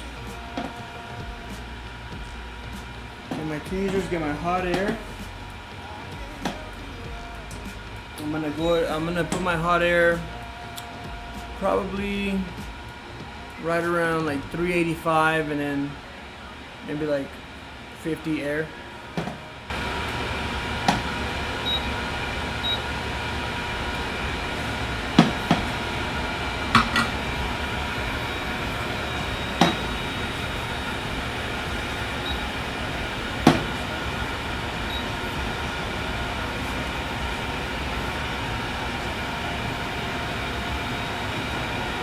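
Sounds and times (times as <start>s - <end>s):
hot air station hissing: 0.0s - 42.0s.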